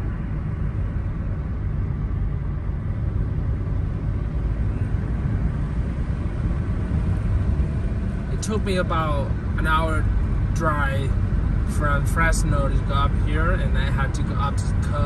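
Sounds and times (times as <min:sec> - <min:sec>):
road and engine noise in car: 0:00.0 - 0:15.0.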